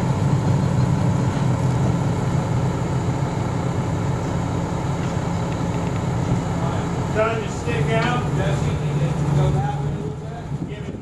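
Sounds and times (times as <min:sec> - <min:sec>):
crane engine droning: 0:00.0 - 0:11.0.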